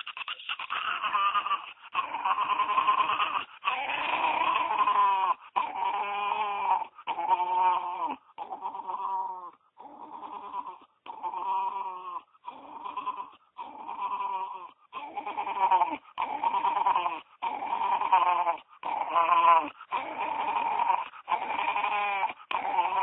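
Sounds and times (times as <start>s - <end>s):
dog whining: 0.0s - 23.0s.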